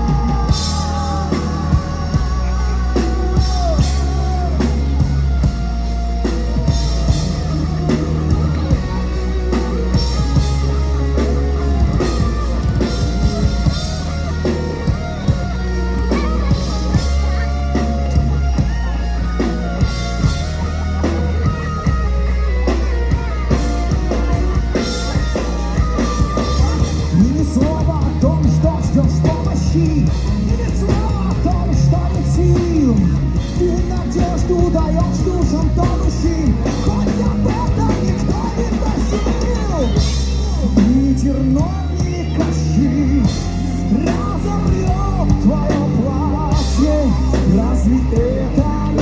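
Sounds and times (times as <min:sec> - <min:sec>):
bass: 0:00.0 - 0:49.0
drum kit steady beat: 0:00.0 - 0:49.0
electric guitar: 0:00.0 - 0:49.0.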